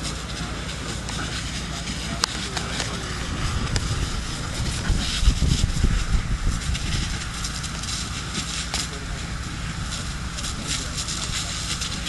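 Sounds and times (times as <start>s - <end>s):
steady hiss: 0.0s - 12.0s
wind buffeting microphone: 0.6s - 12.0s.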